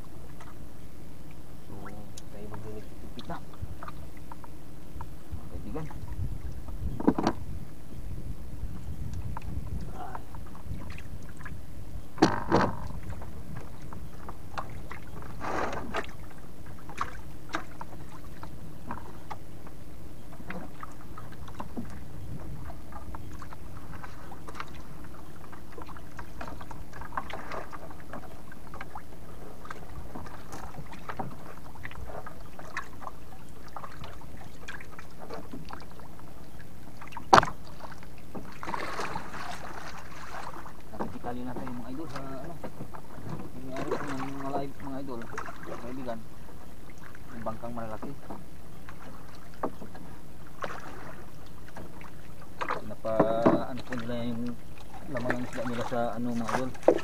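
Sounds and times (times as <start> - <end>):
water rushing past boat: 0.0 - 57.0.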